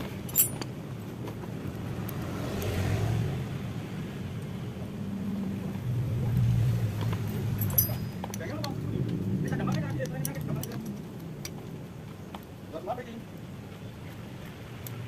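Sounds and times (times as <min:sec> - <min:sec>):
engines humming: 0:00.0 - 0:15.0.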